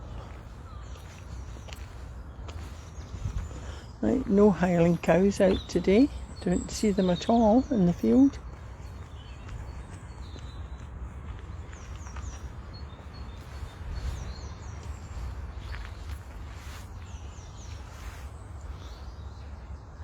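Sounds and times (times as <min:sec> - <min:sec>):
faint footsteps: 0:00.0 - 0:20.0
small bird singing: 0:00.0 - 0:20.0.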